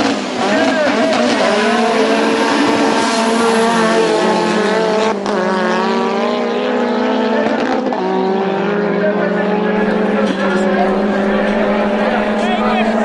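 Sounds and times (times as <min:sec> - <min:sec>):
car engines revving and accelerating: 0:00.0 - 0:13.0.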